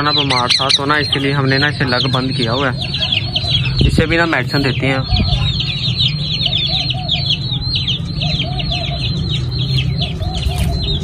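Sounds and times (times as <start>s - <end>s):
chicks peeping: 0.0s - 11.0s
lower bird calls: 0.0s - 11.0s.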